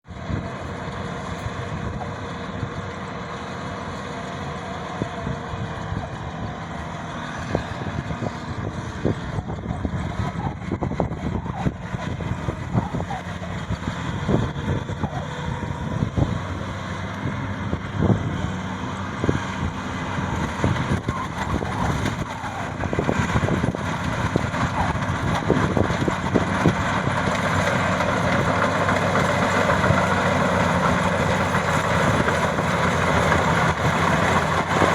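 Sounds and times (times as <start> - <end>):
combine harvester engine: 0.0 - 34.9.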